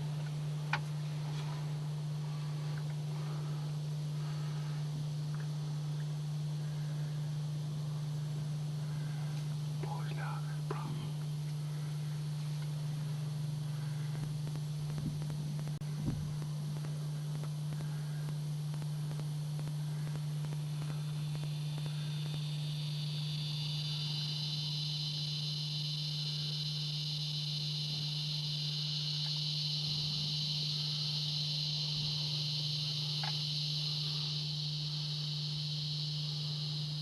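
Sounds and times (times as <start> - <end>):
constant low hum: 0.0 - 37.0
insect chorus drone: 0.0 - 37.0.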